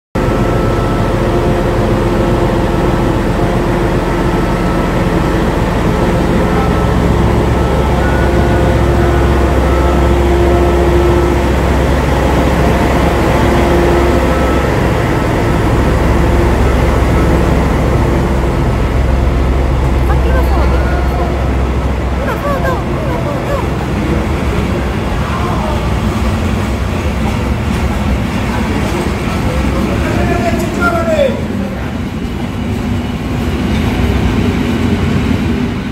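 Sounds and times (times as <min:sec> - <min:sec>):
diesel locomotive engine rumbling: 0:00.2 - 0:35.9
steady hum: 0:00.2 - 0:35.9.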